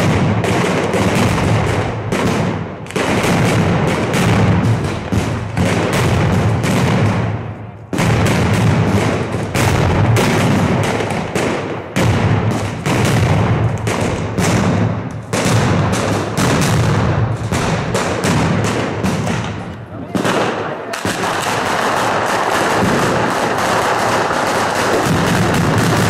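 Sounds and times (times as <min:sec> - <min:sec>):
fireworks banging: 0:00.0 - 0:26.0.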